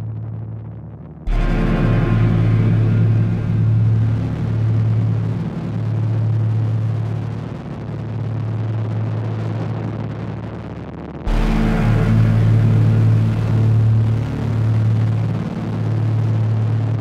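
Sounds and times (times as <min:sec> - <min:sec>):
dark electronic drone: 0:00.0 - 0:17.0
electronic layer with deep bass: 0:00.0 - 0:17.0
rumbling noise wash: 0:00.0 - 0:17.0.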